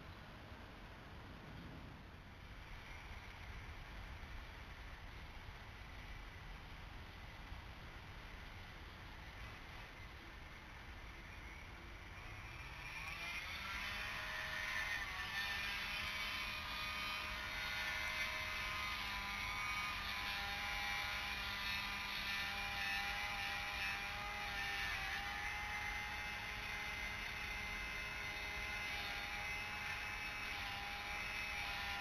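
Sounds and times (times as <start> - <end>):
faint wavering whining tones: 0.0 - 32.0
steady background noise: 0.0 - 32.0.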